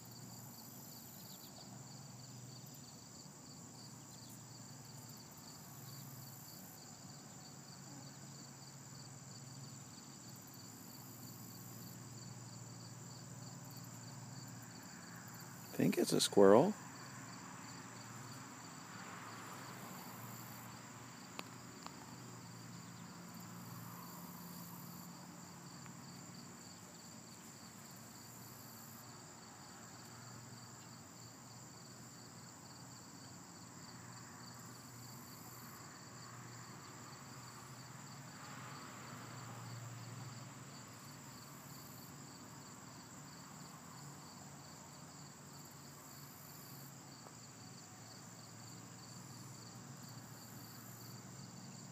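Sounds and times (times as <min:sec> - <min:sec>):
insects chirping: 0:00.0 - 0:51.9.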